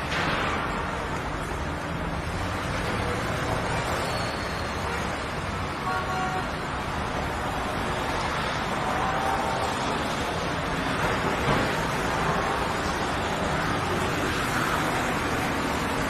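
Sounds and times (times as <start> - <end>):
road vehicles: 0.0 - 16.0.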